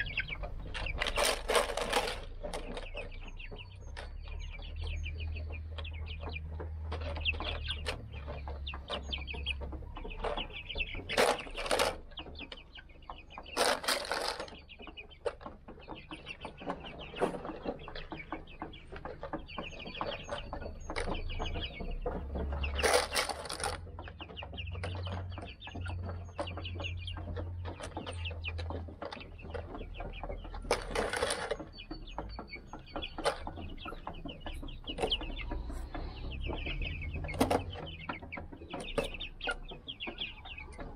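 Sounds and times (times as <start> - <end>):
chicks peeping and clucking: 0.0 - 40.9.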